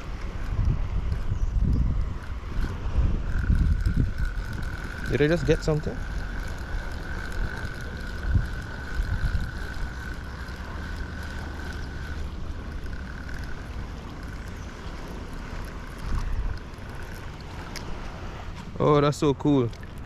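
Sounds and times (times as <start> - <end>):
fishing reel whining: 0.0 - 19.0
wind rumbling on microphone: 0.0 - 20.0.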